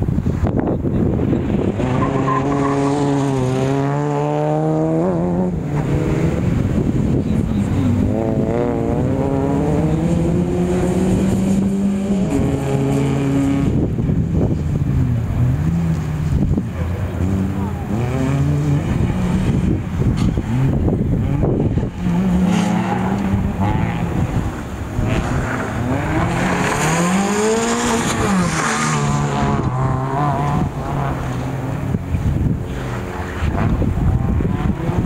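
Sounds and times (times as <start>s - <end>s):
rally car engine revving: 0.2s - 35.0s.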